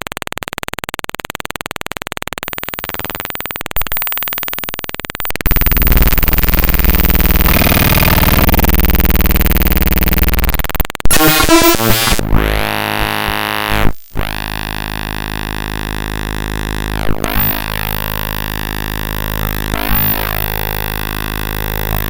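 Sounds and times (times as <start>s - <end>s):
choppy broken tones: 0.0s - 22.0s
harsh digital buzz: 0.0s - 22.0s.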